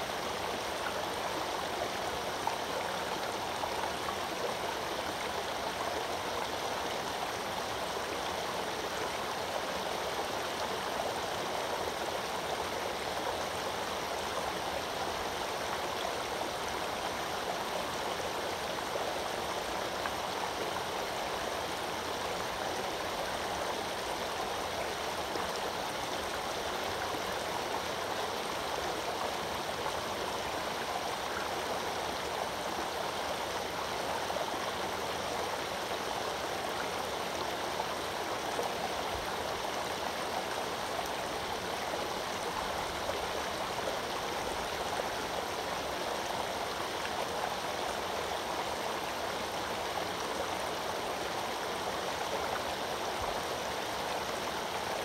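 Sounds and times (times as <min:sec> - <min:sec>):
brook babbling over rocks: 0:00.0 - 0:55.0.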